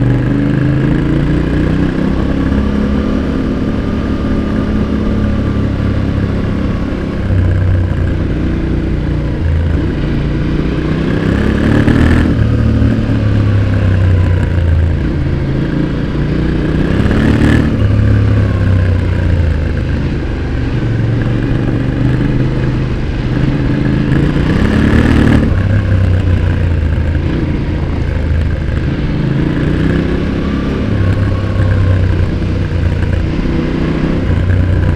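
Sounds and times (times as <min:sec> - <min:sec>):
motorcycle exhaust revving: 0:00.0 - 0:34.9.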